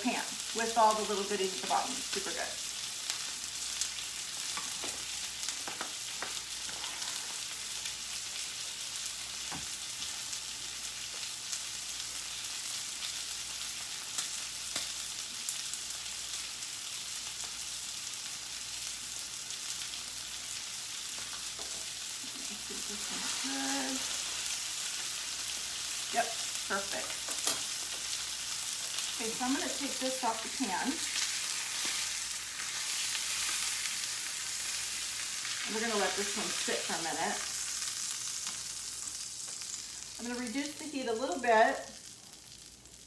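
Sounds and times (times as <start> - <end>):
meat sizzling in a pan: 0.0 - 43.0.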